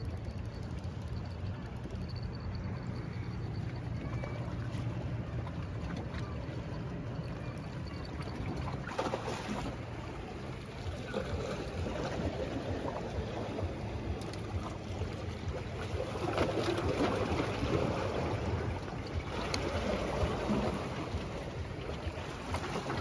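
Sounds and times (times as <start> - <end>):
waves lapping against rocks: 0.0 - 23.0.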